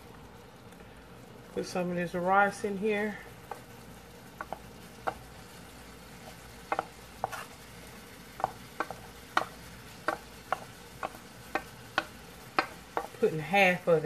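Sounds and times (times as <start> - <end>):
faint sizzling in skillet: 0.0 - 14.0.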